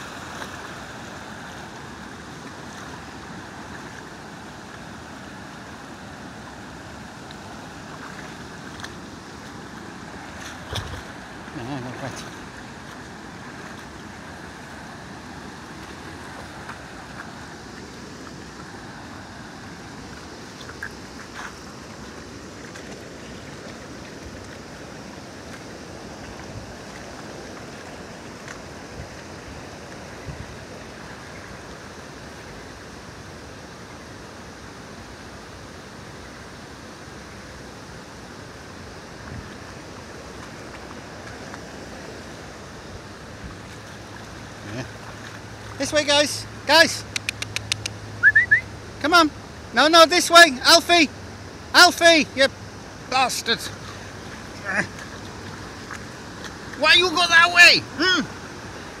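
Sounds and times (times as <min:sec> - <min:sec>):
river water pouring over a weir: 0:00.0 - 0:59.0.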